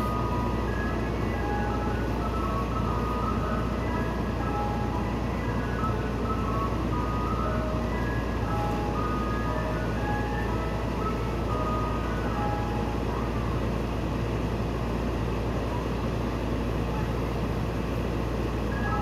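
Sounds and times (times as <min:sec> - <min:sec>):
ice cream truck chime jingle: 0:00.0 - 0:19.0
ice cream truck engine humming: 0:00.0 - 0:19.0.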